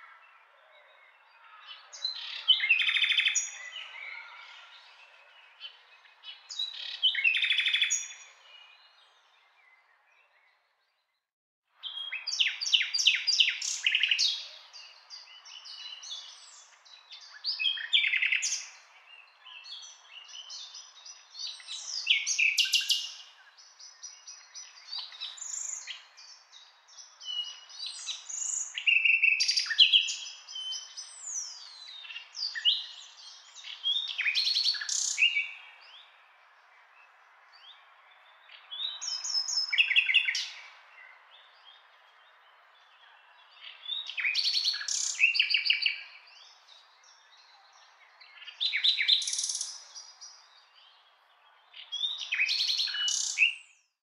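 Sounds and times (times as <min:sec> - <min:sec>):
birds chirping and singing: 0:00.2 - 0:10.8, 0:11.9 - 0:53.9.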